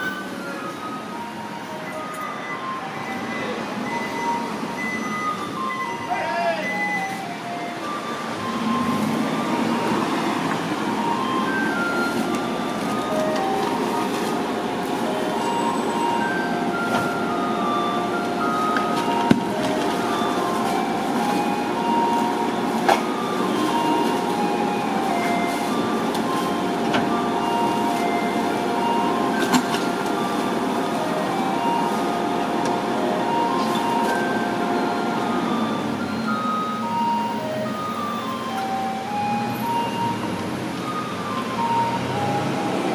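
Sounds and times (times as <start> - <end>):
garbage truck electronic melody: 0.0 - 42.9
truck engine hum: 0.0 - 42.9.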